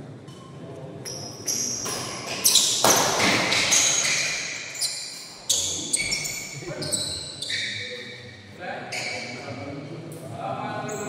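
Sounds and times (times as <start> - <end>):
sneakers squeaking on court: 0.3 - 9.6.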